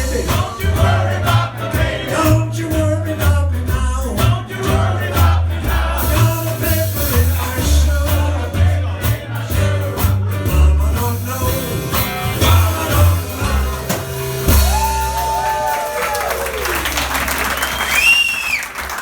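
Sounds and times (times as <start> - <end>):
person singing: 0.0 - 15.5
pulsing bass line: 0.0 - 15.8
drum hits: 0.0 - 16.2
live band playing: 0.0 - 18.0.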